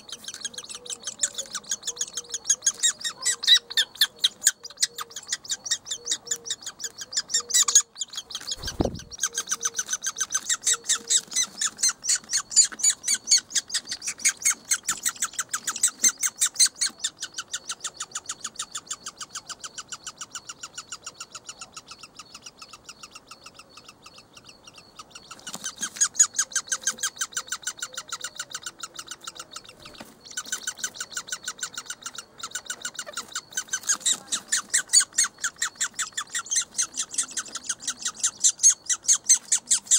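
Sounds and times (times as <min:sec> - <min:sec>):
nestling squawking chirps: 0:00.0 - 0:39.9.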